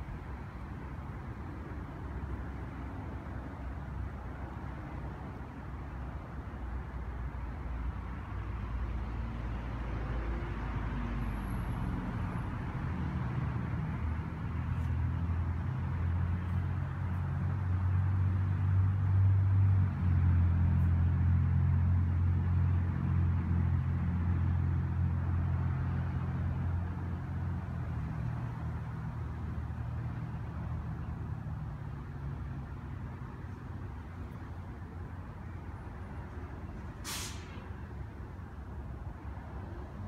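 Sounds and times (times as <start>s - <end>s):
vehicle engine humming: 0.0s - 8.0s, 10.0s - 40.0s
traffic noise: 0.0s - 40.0s.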